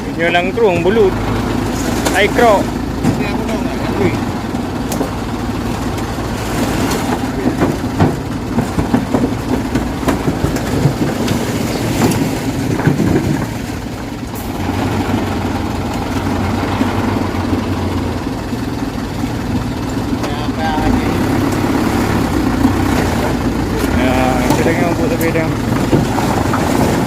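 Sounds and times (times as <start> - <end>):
diesel truck engine running: 0.0 - 27.0
rattles and knocks: 0.0 - 27.0.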